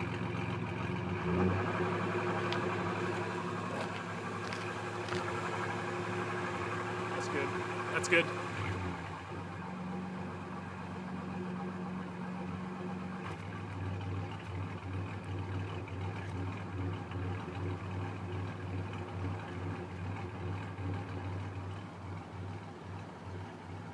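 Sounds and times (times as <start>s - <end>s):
engine idling roughly: 0.0s - 23.9s.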